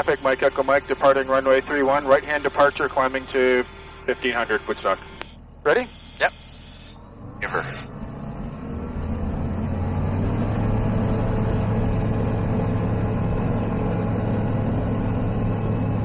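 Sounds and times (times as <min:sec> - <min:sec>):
aircraft engine at full power: 0:00.0 - 0:16.0.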